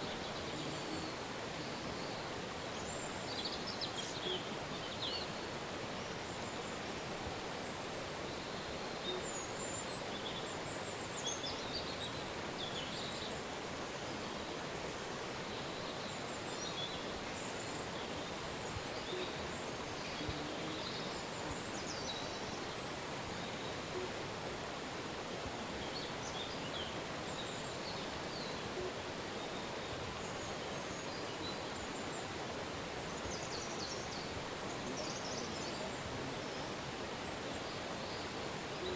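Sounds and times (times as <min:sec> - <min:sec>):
river running: 0:00.0 - 0:38.9.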